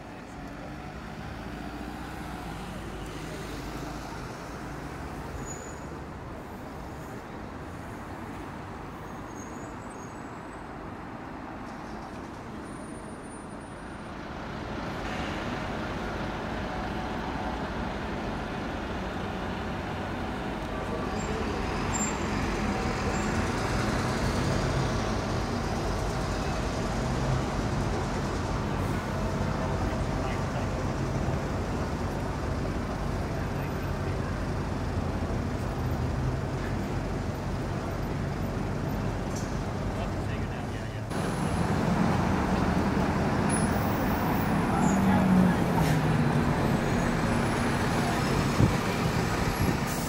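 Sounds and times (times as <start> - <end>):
cars and buses passing: 0.0 - 50.0.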